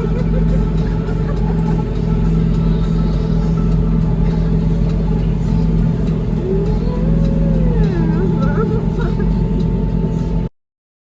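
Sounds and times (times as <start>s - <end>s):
farm machine engine running: 0.0s - 10.5s.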